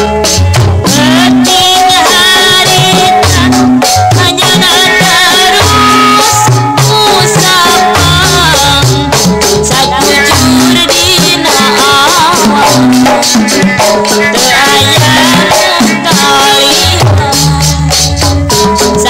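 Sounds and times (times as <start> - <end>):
hand drum patterns: 0.0 - 19.0
instrumental gamelan music: 0.0 - 19.0.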